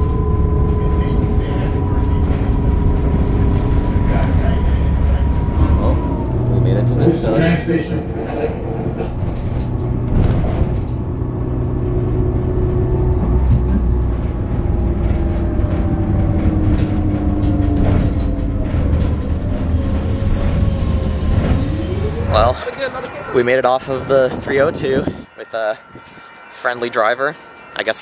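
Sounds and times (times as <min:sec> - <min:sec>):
bus engine drone: 0:00.0 - 0:28.0
drivetrain whine dropping in pitch: 0:00.0 - 0:28.0.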